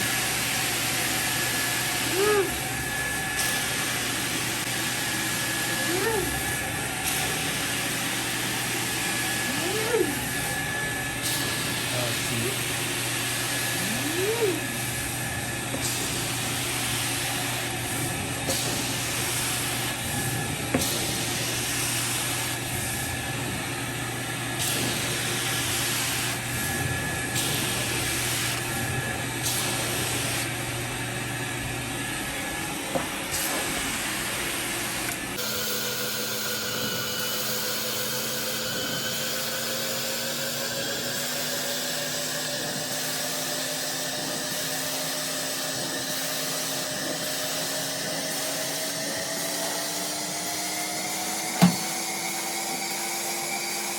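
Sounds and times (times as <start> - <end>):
carpet extractor vacuum motor: 0.0 - 53.9
steady motor hum: 0.0 - 53.9.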